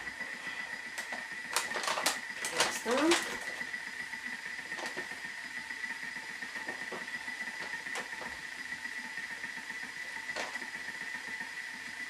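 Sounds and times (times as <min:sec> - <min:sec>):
food processor motor whine: 0:00.0 - 0:12.0.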